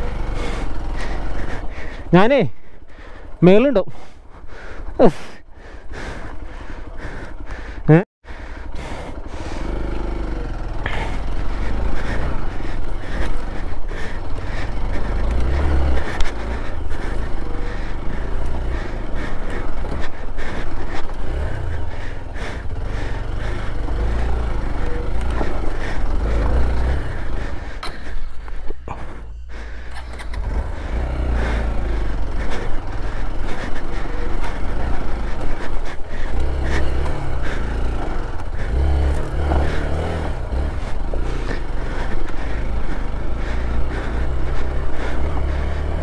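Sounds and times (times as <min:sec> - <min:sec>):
motorcycle engine: 0:00.0 - 0:46.0.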